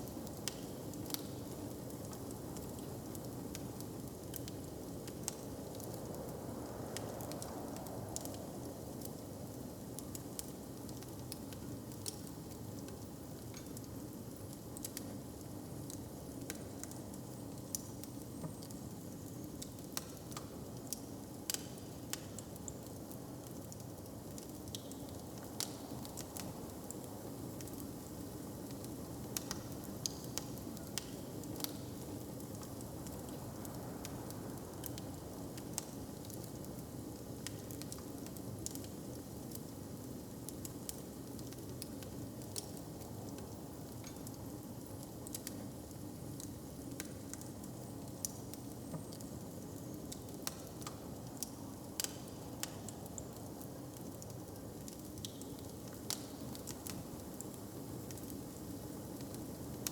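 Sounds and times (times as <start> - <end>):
wood fire crackling: 0.0 - 18.8, 19.6 - 59.9.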